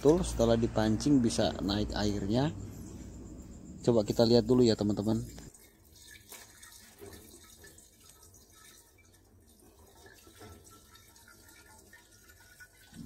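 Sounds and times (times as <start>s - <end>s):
water trickling into pump: 0.0s - 13.0s.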